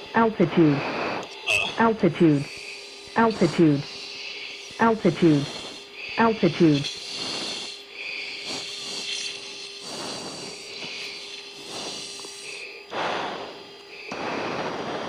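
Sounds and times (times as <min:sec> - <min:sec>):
steady electronic hum: 0:00.0 - 0:15.0
rasping breathing through mask: 0:02.1 - 0:15.0.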